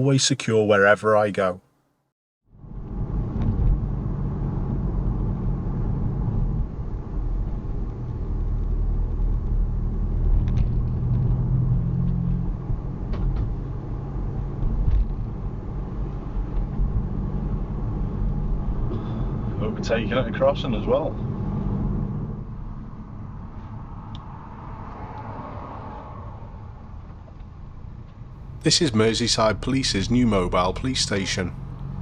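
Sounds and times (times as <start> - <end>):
car engine and road rumble: 2.5 - 32.0.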